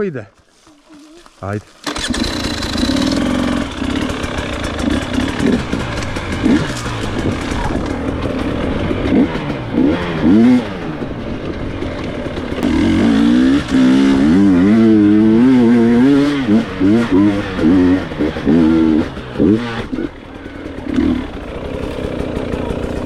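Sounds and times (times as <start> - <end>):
dirt bike engine revving: 1.8 - 23.0.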